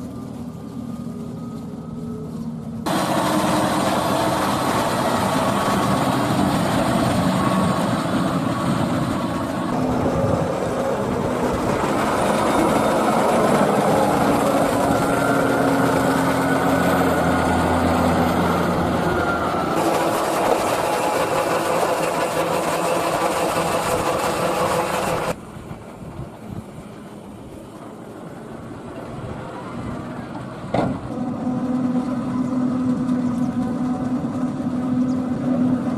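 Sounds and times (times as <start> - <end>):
tractor engines under load: 0.0 - 35.9.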